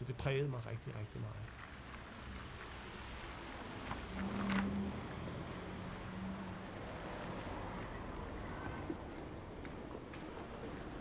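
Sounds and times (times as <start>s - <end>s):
cars driving past: 1.6s - 11.0s.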